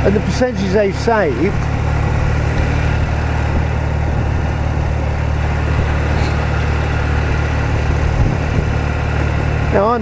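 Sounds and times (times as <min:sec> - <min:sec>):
motorcycle engine droning: 0:00.0 - 0:10.0.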